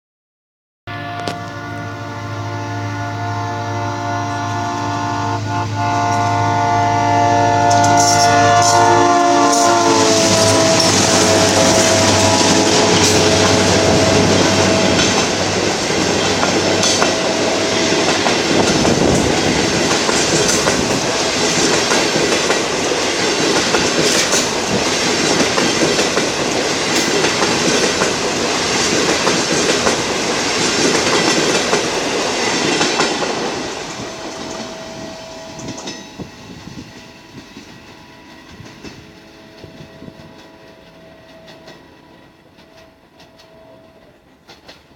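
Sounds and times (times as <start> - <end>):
diesel locomotive drone: 0.9 - 44.9
train wheels clacking over rail joints: 7.6 - 44.9.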